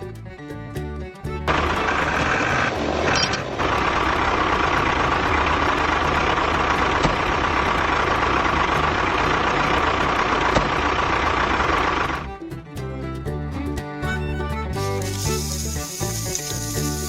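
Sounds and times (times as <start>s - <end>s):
small engine running: 1.2s - 12.5s, 14.0s - 17.0s.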